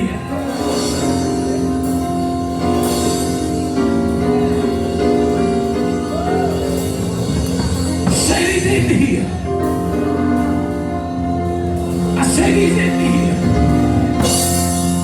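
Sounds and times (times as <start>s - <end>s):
keyboard playing sustained chords: 0.0s - 15.0s.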